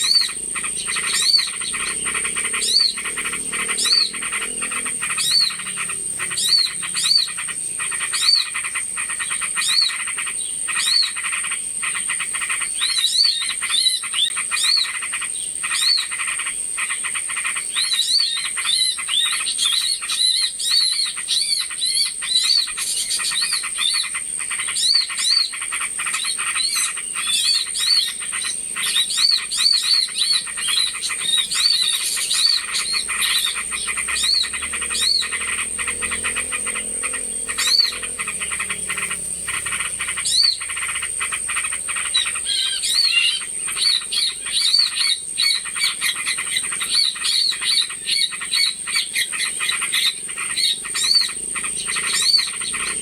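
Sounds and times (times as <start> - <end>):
small birds chattering: 0.0 - 53.0.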